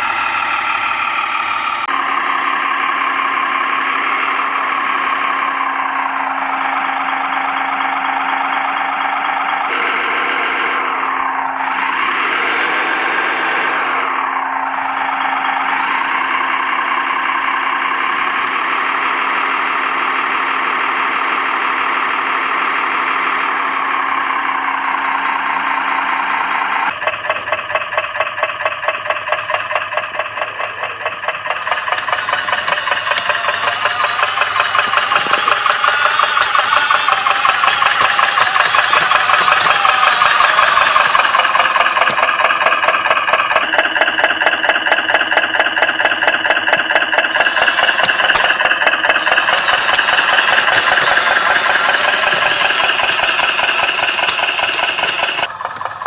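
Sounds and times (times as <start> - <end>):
pulsing knocking tractor chug: 0.0 - 56.0
simulated diesel engine sound: 0.0 - 56.0.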